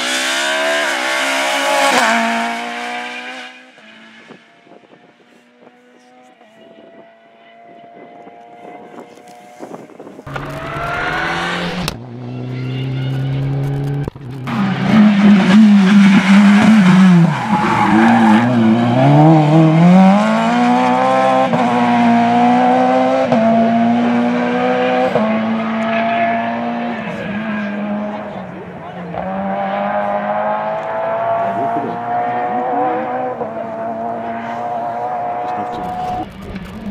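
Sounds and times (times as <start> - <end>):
rally car engine revving: 0.0 - 36.9.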